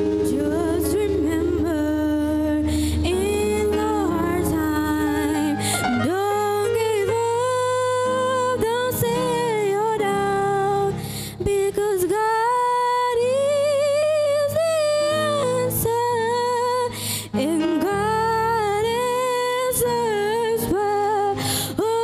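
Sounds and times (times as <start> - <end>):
girl singing into microphone: 0.0 - 22.0
soft instrumental accompaniment: 0.0 - 22.0.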